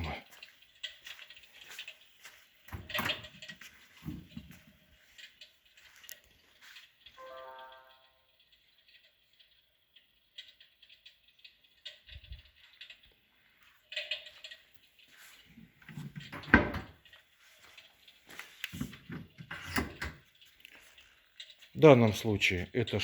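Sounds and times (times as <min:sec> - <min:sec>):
light clicks and rustles: 0:00.0 - 0:07.2, 0:08.6 - 0:23.0.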